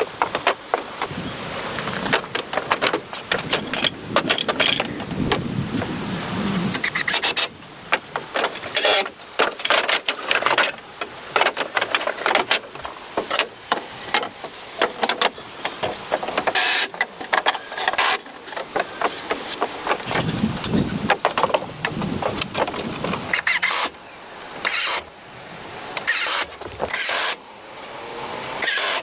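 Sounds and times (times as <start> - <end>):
hand tools scraping and knocking wood: 0.0 - 6.0, 6.6 - 24.0, 24.6 - 25.2, 25.8 - 27.4, 28.6 - 29.0.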